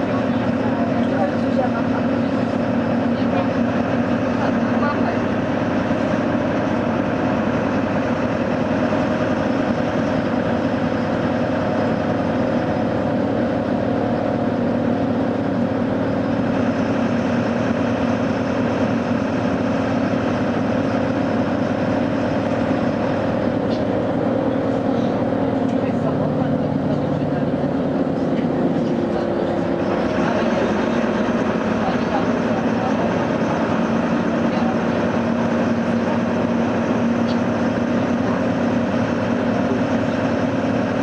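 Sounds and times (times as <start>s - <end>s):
bus engine humming: 0.0s - 41.0s
road and tyre rumble: 0.0s - 41.0s.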